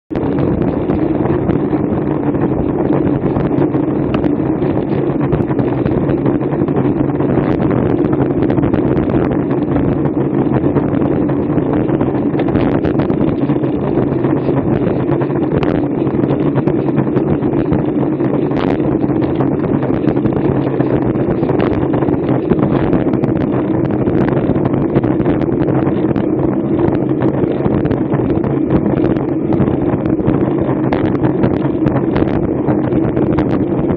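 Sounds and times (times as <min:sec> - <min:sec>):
wind rush on microphone: 0:00.0 - 0:33.9
bicycle tyre and road noise: 0:00.1 - 0:33.9.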